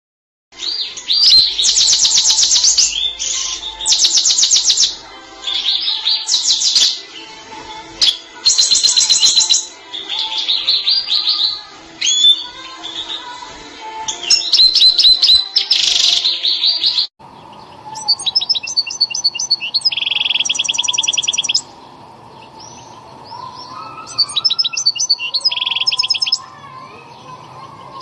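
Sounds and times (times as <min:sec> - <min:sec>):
songbird singing trilled phrases: 0:00.6 - 0:07.1, 0:08.0 - 0:13.2, 0:14.1 - 0:26.5.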